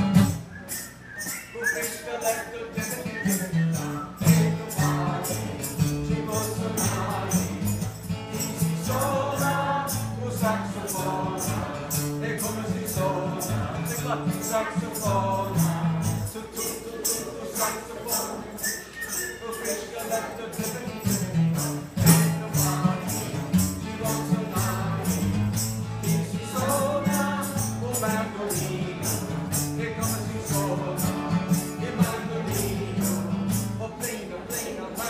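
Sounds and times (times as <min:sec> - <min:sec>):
acoustic guitar: 0:00.0 - 0:35.0
hand percussion beat: 0:00.0 - 0:35.0
children singing: 0:04.2 - 0:07.8, 0:08.5 - 0:20.8, 0:21.6 - 0:35.0.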